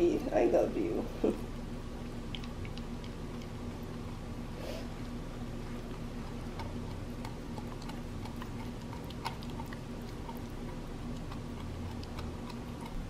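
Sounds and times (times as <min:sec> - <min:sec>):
dog gnawing on a bone: 0:02.0 - 0:13.0.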